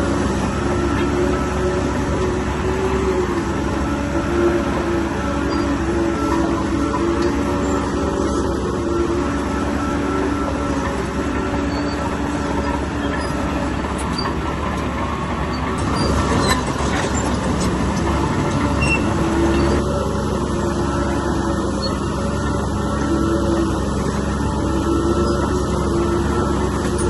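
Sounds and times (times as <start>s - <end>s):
diesel engine running: 0.0s - 27.0s
steel tracks squealing and clanking: 0.0s - 27.0s.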